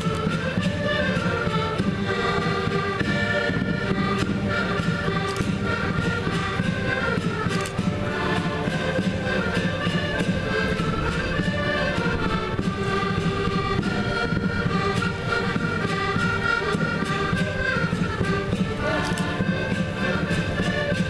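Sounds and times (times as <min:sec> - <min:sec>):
concertinas playing a tune: 0:00.0 - 0:21.0.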